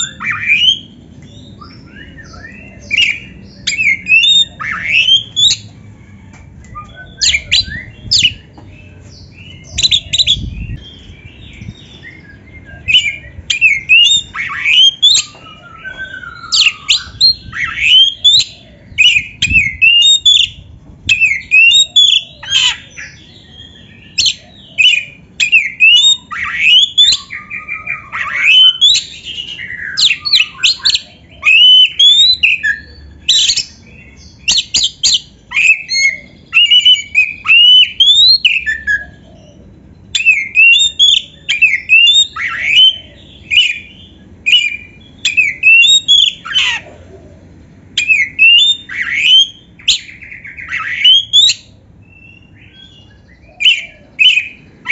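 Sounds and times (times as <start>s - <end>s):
bird singing whistled phrases: 0.0s - 5.7s, 6.7s - 39.3s, 40.1s - 46.8s, 48.0s - 54.9s.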